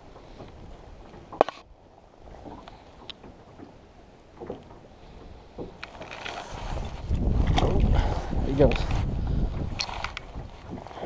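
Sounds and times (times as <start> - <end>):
water around a boat: 0.0 - 11.0
wind: 0.0 - 11.0.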